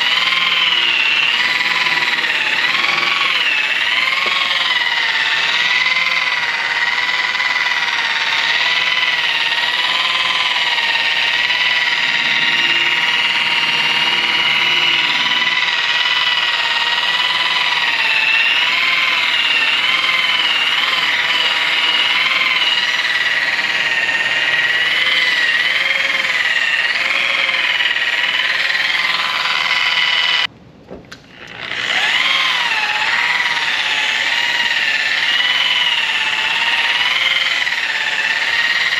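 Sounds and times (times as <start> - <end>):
polishing machine motor whine: 0.0 - 30.5, 31.3 - 38.9.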